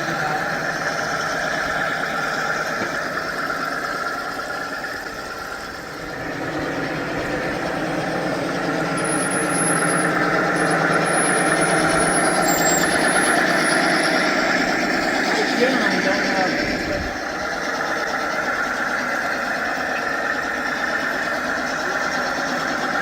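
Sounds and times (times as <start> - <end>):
simulated diesel engine sound: 0.0 - 23.0.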